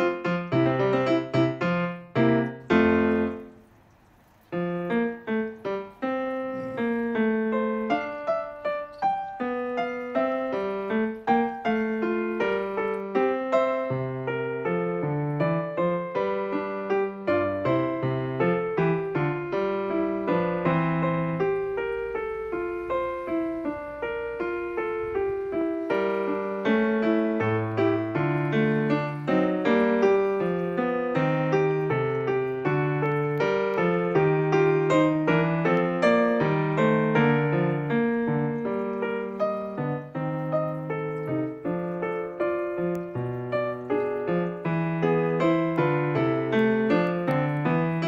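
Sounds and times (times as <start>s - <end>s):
piano music: 0.0s - 48.0s.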